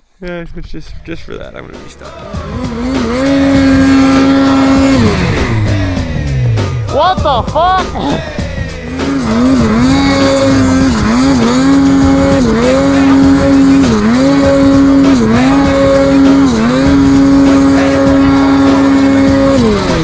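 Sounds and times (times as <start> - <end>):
snowmobile engine revving: 1.7 - 20.0.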